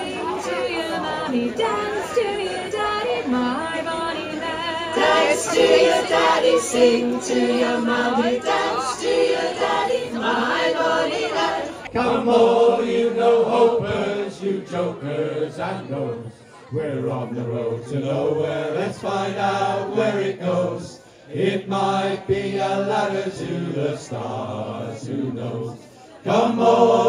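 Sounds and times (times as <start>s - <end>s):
group singing in chorus: 0.0s - 27.0s.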